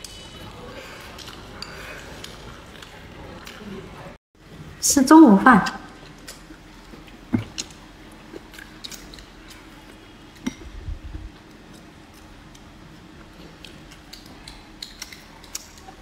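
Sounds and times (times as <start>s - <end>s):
person chewing: 0.0s - 3.8s, 5.9s - 10.7s, 11.3s - 16.0s.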